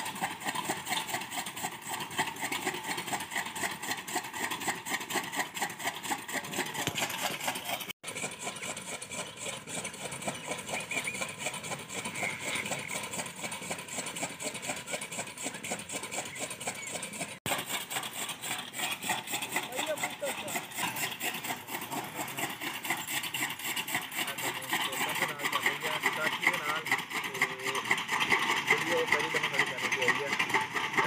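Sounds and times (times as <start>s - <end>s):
gear drive mechanical clatter: 0.0s - 31.0s.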